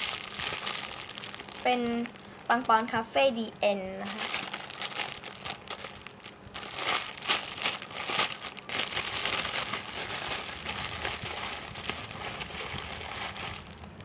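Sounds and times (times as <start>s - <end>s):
plastic bag crinkling: 0.0s - 2.9s, 4.0s - 14.0s.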